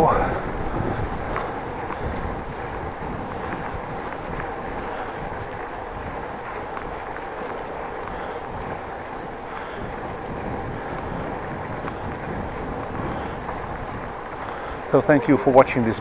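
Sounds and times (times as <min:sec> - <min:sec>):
tyre and road noise: 0:00.0 - 0:16.0
wind rumble on microphone: 0:00.0 - 0:16.0.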